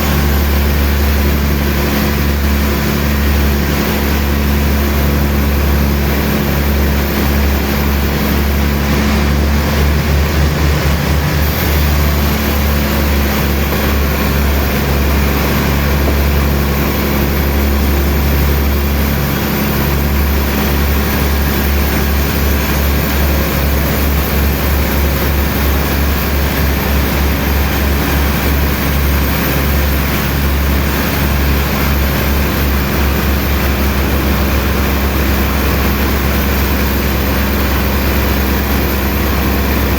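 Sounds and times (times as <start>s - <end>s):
heavy sawmill machinery running: 0.0s - 39.9s.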